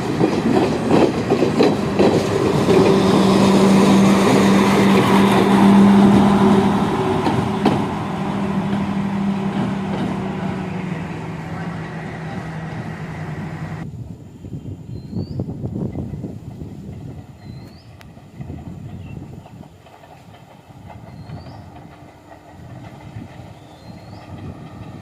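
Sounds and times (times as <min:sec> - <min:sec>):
diesel train engine drone: 0:00.0 - 0:14.0, 0:15.6 - 0:25.0.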